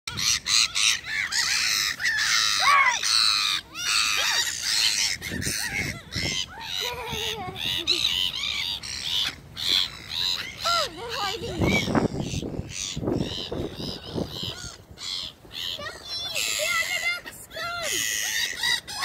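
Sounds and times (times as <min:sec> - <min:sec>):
gulls squawking: 0:00.1 - 0:19.0.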